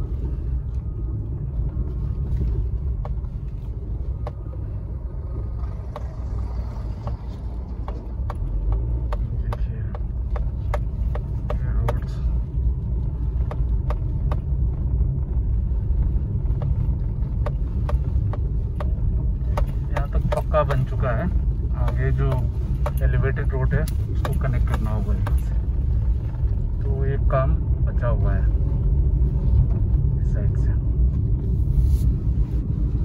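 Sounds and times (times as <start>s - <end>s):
car cabin rumble: 0.0s - 33.0s.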